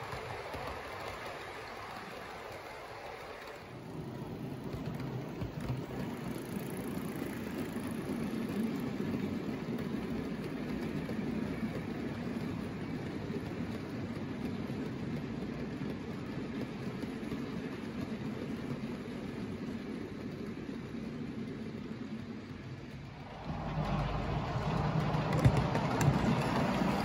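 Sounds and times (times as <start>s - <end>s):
model train wheels rumbling on rails: 0.0s - 27.0s.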